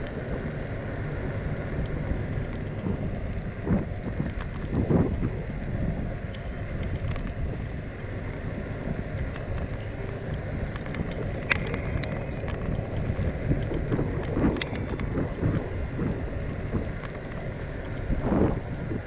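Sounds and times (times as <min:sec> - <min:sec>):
skateboard wheels rolling on asphalt: 0:00.0 - 0:19.0
wheels ticking over cracks: 0:00.0 - 0:19.0
wind buffeting microphone: 0:00.0 - 0:19.0.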